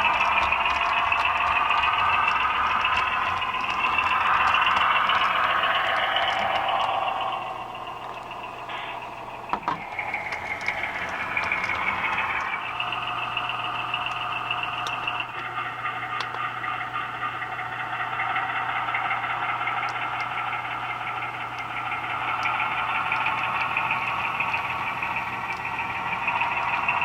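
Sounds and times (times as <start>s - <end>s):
engine sound from small speaker: 0.0s - 27.0s
low hum: 0.0s - 27.0s.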